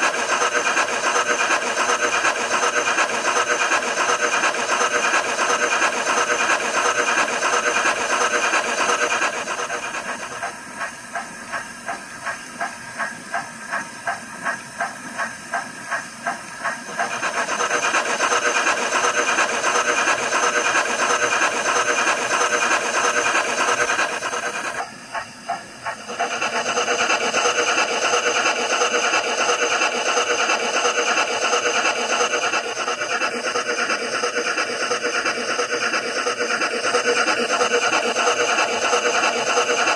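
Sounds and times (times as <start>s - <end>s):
steam hiss from small speaker: 0.0s - 39.9s
steam locomotive chuffs: 0.0s - 39.9s.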